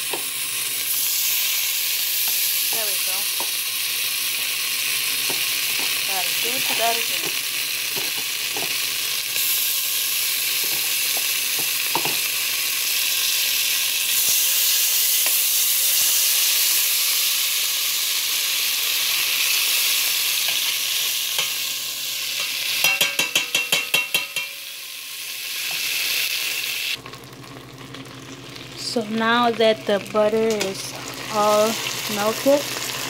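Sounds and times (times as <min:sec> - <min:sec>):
butter sizzling in a pot: 0:00.0 - 0:33.0.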